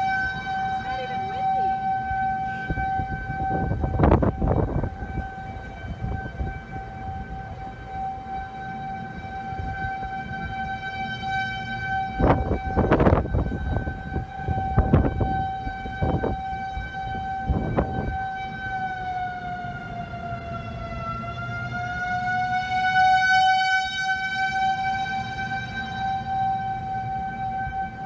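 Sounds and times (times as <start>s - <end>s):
tornado siren wailing: 0.0s - 28.0s.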